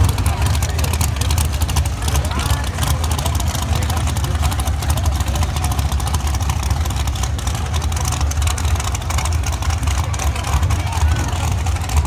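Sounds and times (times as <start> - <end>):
race car engines rumbling and crackling: 0.0 - 12.0.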